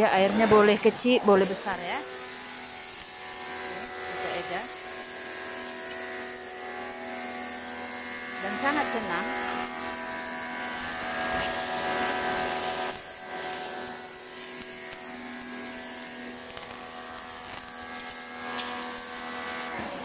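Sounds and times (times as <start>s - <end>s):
pressure washer motor whine: 0.0s - 20.0s
water jet hissing on tiles: 0.0s - 20.0s.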